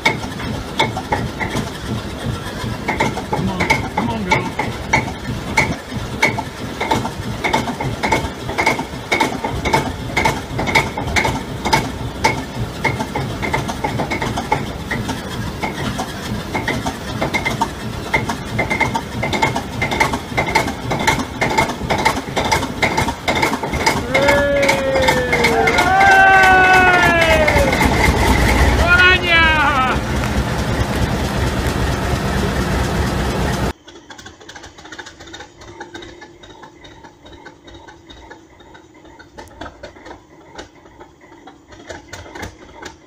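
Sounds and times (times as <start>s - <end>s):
diesel locomotive engine knocking: 0.0s - 43.0s.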